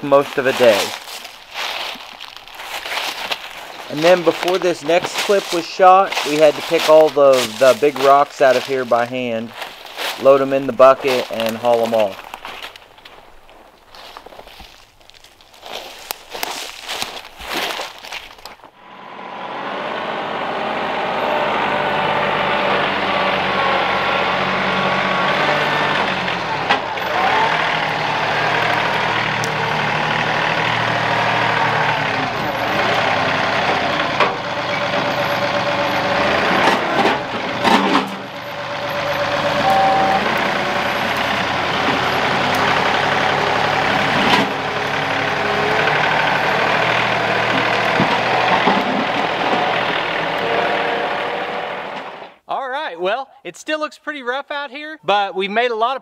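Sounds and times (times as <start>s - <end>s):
tractor diesel engine running: 0.0s - 52.5s.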